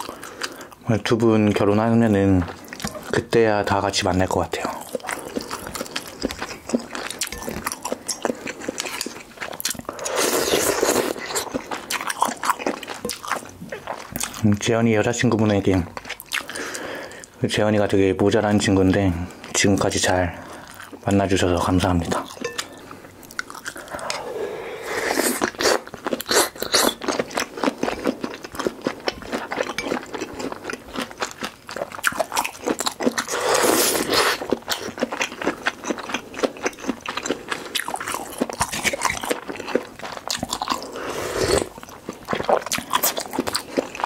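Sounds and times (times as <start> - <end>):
chewing and crunching food: 0.0 - 17.4, 18.6 - 44.0.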